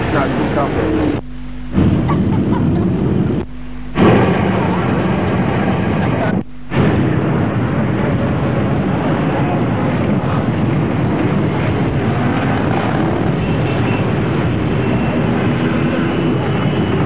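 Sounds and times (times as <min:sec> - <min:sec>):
many motorcycle engines running: 0:00.0 - 0:17.0.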